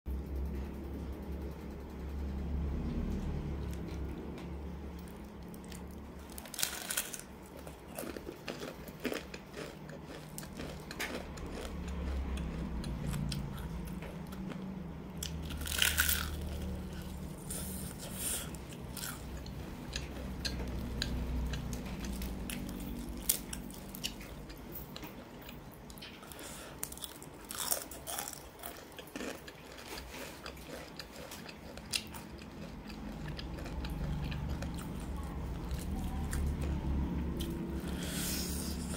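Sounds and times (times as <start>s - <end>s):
chewing: 3.1s - 38.9s
fried chicken crunching: 3.8s - 38.9s.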